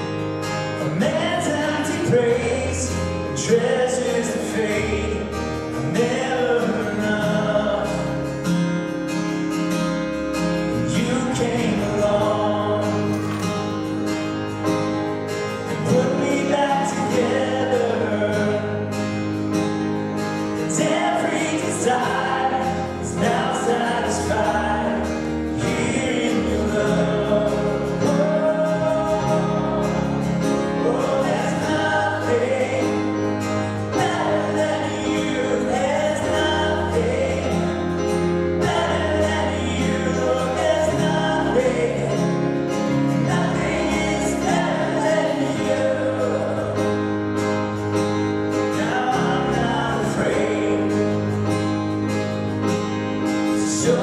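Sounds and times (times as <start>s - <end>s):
acoustic guitar: 0.0s - 54.0s
electric guitar: 0.0s - 54.0s
keyboard: 0.0s - 54.0s
man singing: 0.8s - 8.6s, 10.6s - 13.7s, 15.7s - 19.2s, 20.6s - 47.1s, 48.6s - 51.5s, 53.5s - 54.0s.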